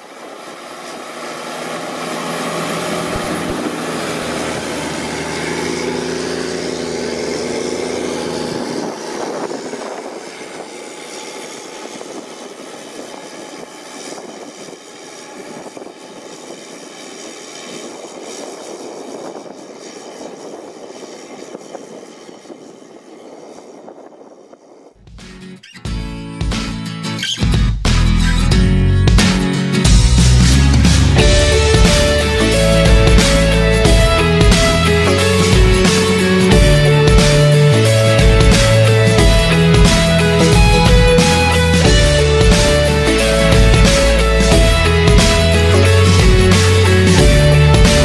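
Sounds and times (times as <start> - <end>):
diesel tractor engine under load: 0.0 - 25.2, 27.9 - 48.0.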